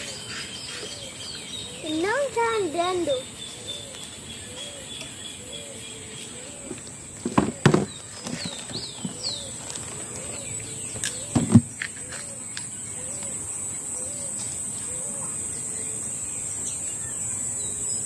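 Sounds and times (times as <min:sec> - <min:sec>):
high insect drone: 0:00.0 - 0:07.8, 0:09.2 - 0:18.0.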